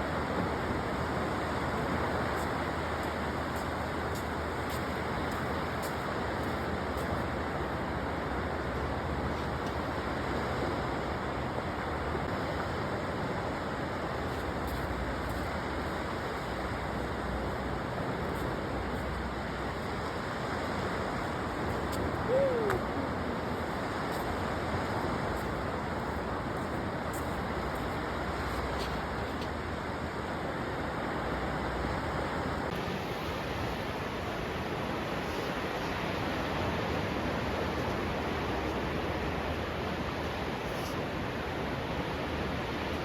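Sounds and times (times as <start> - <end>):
sea wind: 0.0 - 43.0
surf: 0.0 - 43.0.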